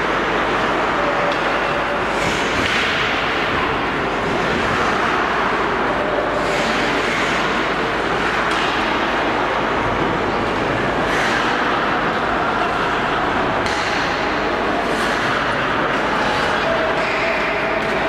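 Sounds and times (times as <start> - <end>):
loud background rumble: 0.0 - 18.0.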